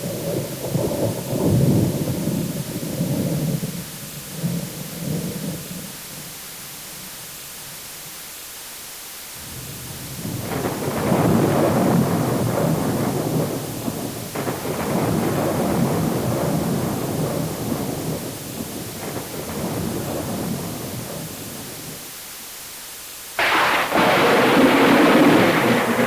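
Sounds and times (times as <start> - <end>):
thunder rumbling: 0.0 - 7.1, 9.4 - 22.1, 23.4 - 26.0
rain hissing: 0.0 - 26.0.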